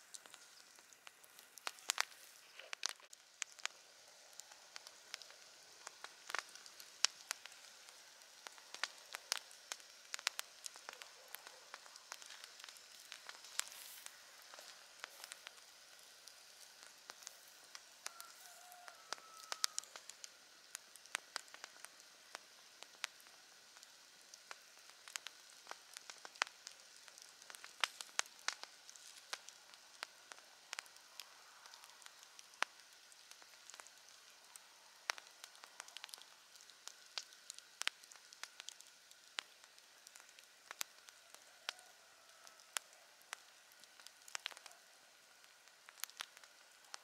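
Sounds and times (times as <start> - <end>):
campfire crackling and popping: 0.0 - 47.0
soft steady hiss: 0.0 - 47.0.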